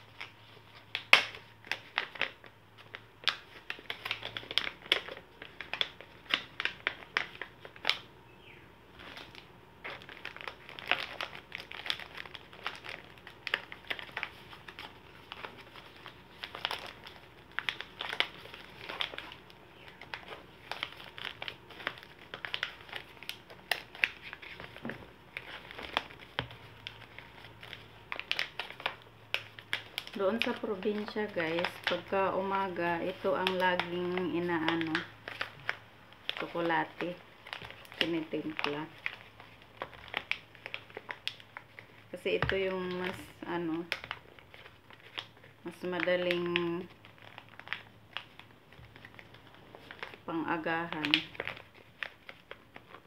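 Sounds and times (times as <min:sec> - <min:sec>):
packaging bags crinkling: 0:00.0 - 0:53.0.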